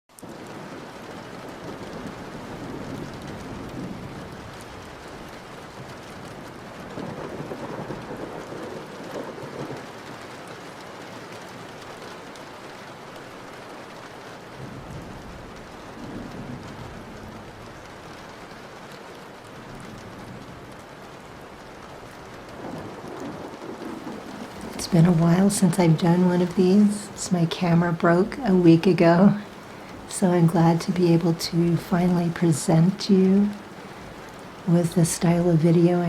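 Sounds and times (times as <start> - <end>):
steady rain falling: 0.1 - 36.0.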